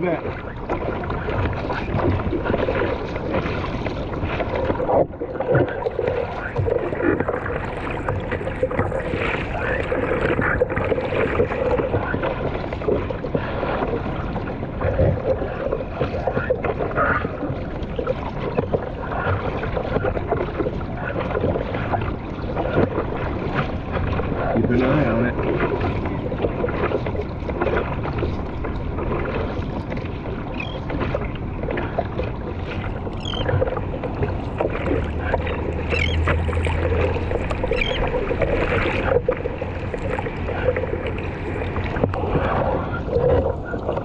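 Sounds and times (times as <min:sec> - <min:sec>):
water slapping against surfboard: 0:00.0 - 0:44.0.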